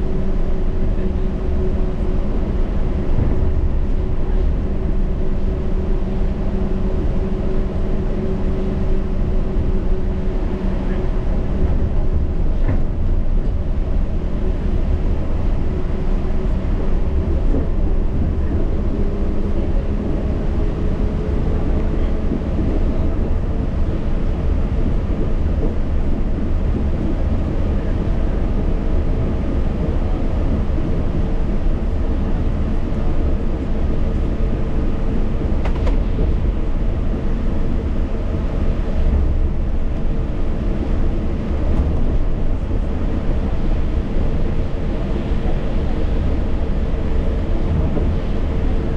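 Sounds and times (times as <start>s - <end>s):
train rumbling on guideway: 0.0s - 48.9s.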